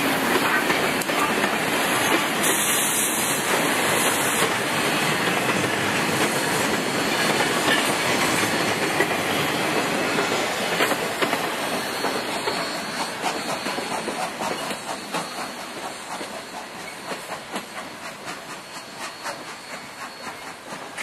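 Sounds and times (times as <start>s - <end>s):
train wheels clicking over rail joints: 0.0s - 21.0s.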